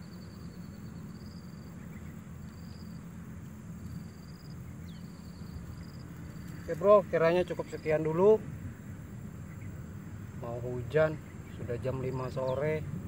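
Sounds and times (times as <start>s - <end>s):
insect chirping trills: 0.0s - 12.8s.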